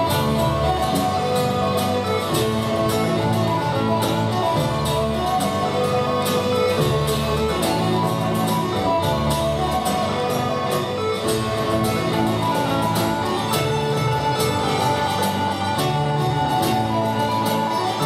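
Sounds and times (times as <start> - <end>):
sustained melody notes: 0.0 - 18.0.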